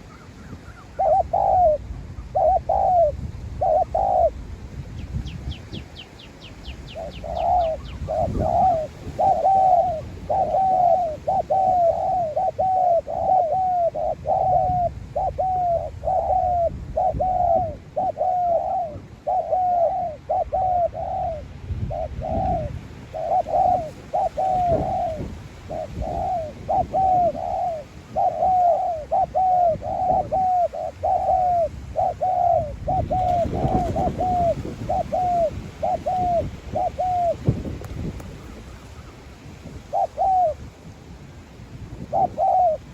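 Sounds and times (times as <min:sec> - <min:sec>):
dove cooing: 0:00.0 - 0:04.4, 0:05.2 - 0:40.7, 0:42.0 - 0:42.9.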